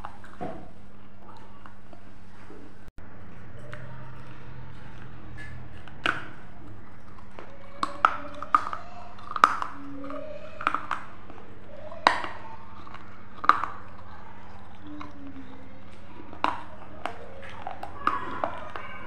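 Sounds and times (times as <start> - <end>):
crunchy snack being chewed: 3.4 - 19.0.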